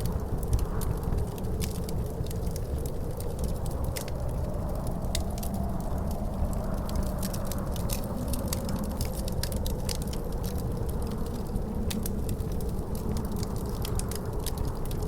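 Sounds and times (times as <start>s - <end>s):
wind rumble with wavering howl: 0.0s - 15.0s
wood fire crackling and popping: 0.0s - 15.0s.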